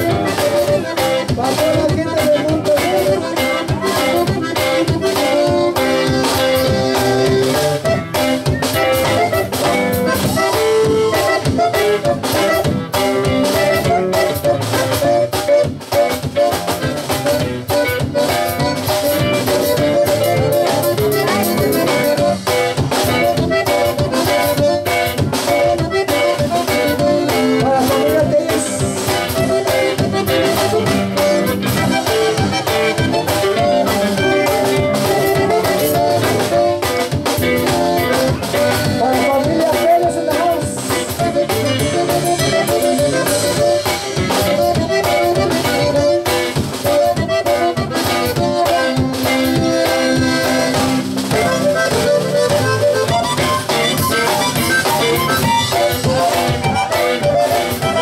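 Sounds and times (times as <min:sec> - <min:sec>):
acoustic guitar: 0:00.0 - 0:58.0
button accordion: 0:00.0 - 0:58.0
drum kit dance beat: 0:00.0 - 0:58.0
electric bass: 0:00.0 - 0:58.0.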